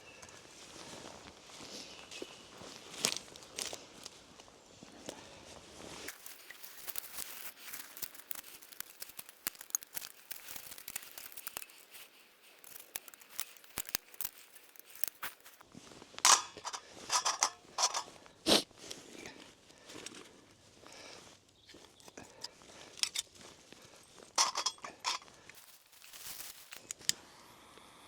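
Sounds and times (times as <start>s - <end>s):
boots crunching on a path: 0.5s - 26.9s.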